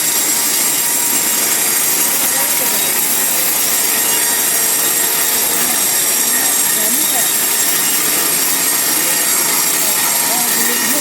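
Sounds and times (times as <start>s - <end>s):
band saw cutting log: 0.0s - 11.0s.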